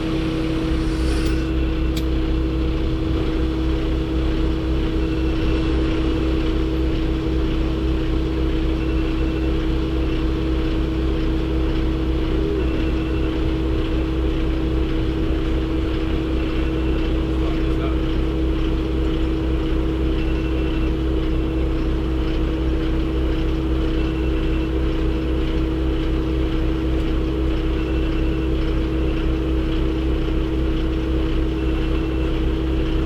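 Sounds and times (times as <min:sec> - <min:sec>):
vehicle engine running steadily: 0:00.0 - 0:33.0.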